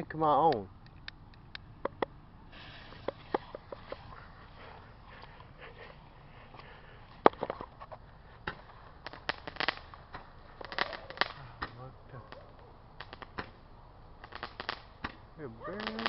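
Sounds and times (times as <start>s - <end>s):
firework pops and crackles: 1.8s - 5.3s, 6.6s - 16.0s
firework hissing: 2.4s - 16.0s.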